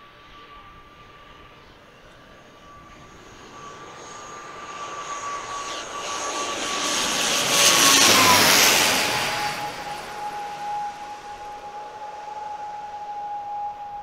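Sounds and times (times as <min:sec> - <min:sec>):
steady high whine: 0:00.0 - 0:14.0
turboprop airliner engines: 0:00.0 - 0:14.0.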